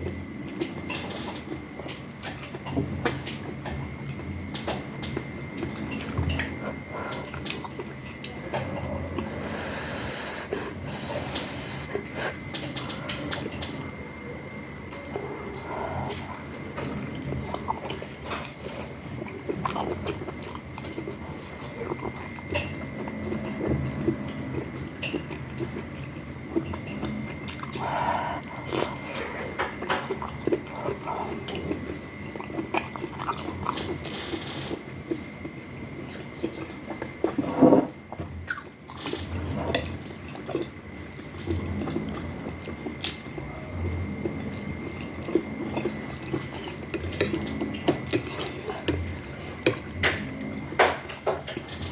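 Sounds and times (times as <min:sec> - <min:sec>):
wet slurping and chewing: 0:05.9 - 0:50.8.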